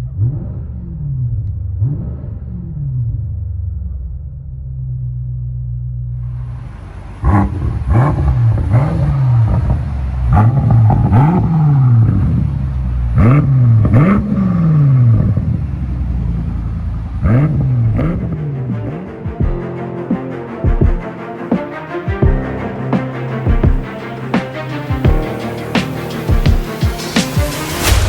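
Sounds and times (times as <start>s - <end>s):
car engine idling and revving: 0.0s - 19.6s, 21.0s - 28.0s.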